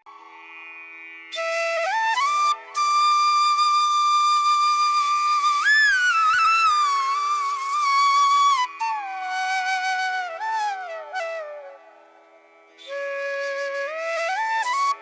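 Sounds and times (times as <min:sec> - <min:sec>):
solo flute melody: 0:01.3 - 0:15.0.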